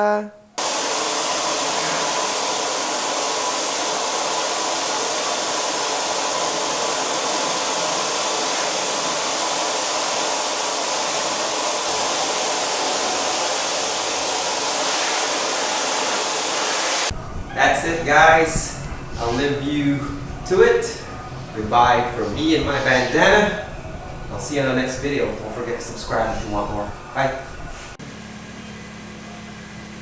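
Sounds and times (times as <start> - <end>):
air blower running: 0.6 - 30.0.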